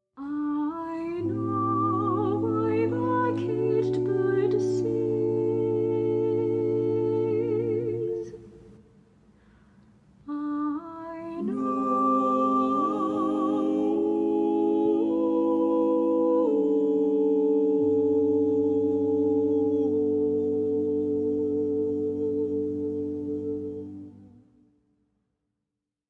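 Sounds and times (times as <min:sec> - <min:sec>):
vocal ensemble holding chords: 0:00.2 - 0:24.6.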